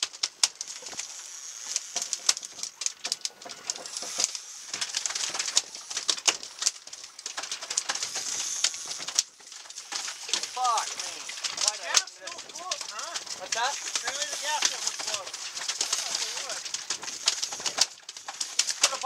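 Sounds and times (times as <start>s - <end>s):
fishing reels clicking and ratcheting: 0.0s - 19.0s
steady high hiss: 3.7s - 19.0s.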